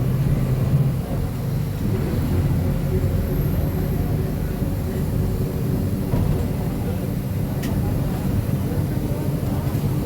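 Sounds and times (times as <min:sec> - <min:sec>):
bus diesel engine humming: 0:00.0 - 0:10.0.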